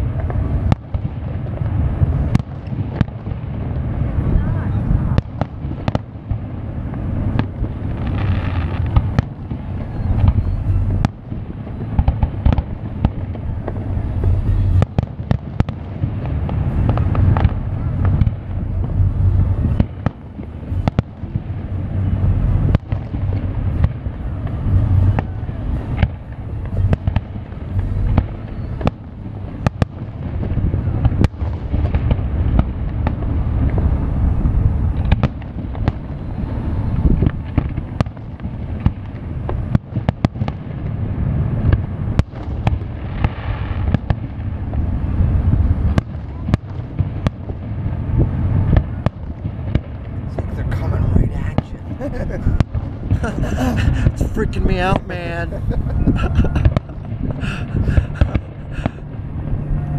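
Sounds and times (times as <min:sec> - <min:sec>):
continuous low rumble: 0:00.0 - 0:59.9.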